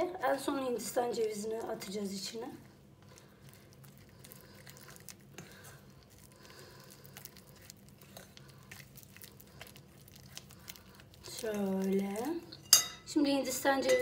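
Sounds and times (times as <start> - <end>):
mixture squishing in bowl: 0.0 - 14.0.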